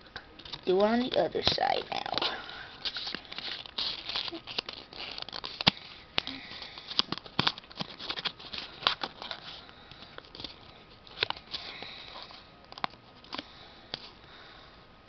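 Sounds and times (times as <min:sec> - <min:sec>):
paper rustling and crinkling: 0:00.4 - 0:14.2.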